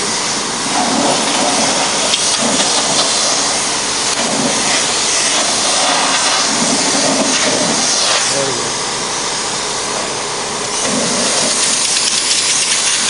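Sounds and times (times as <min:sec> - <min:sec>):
compressed air hissing from blow gun: 0:00.0 - 0:13.0.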